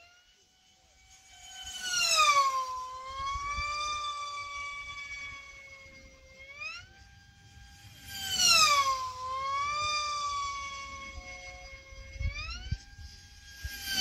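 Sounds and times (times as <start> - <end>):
model aircraft motor whine: 0.0 - 14.0.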